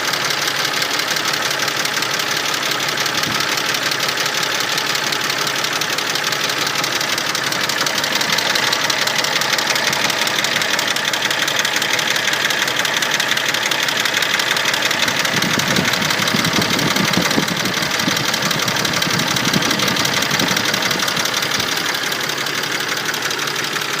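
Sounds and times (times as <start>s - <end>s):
deeper engine sound: 0.0s - 24.0s.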